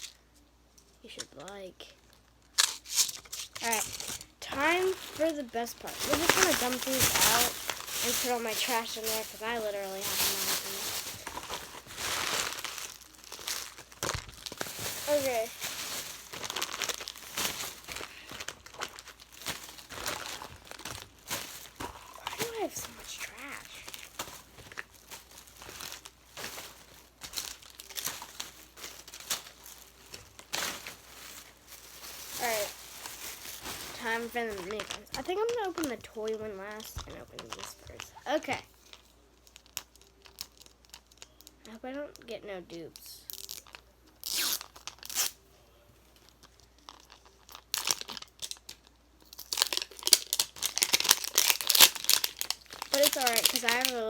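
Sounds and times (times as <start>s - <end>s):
plastic packaging crinkling: 1.5s - 41.8s, 43.2s - 45.4s, 46.2s - 54.0s.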